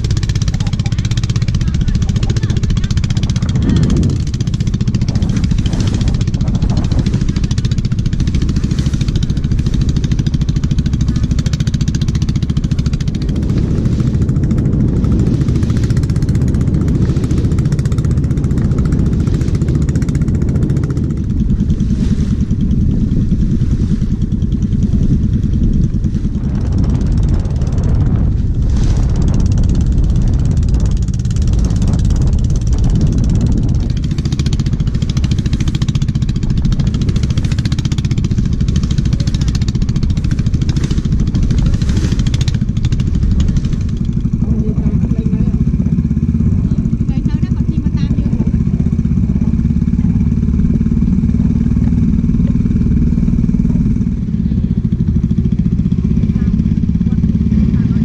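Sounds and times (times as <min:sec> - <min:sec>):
boat engine rumbling: 0:00.0 - 0:58.0
water splashing along hull: 0:00.0 - 0:58.0.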